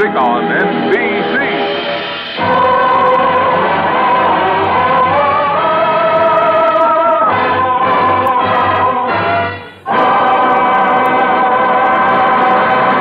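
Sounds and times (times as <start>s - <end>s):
choir singing with orchestra: 0.0s - 13.0s.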